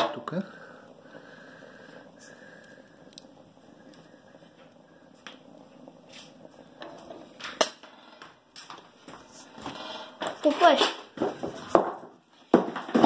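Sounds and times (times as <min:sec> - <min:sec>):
faint steady hiss: 0:00.0 - 0:12.4.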